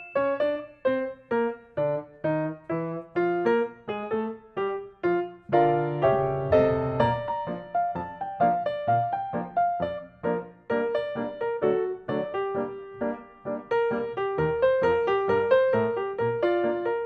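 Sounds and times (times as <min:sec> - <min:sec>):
keyboard melody: 0:00.0 - 0:17.0.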